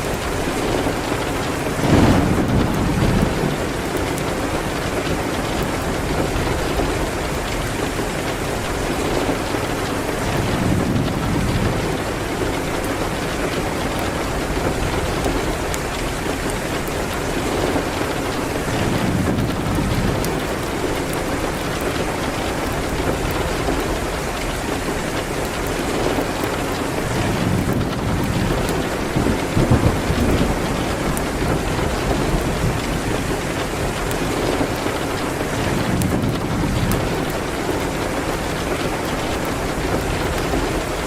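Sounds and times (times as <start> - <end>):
heavy rain: 0.0 - 41.0
low thunder rumbling: 0.0 - 41.0.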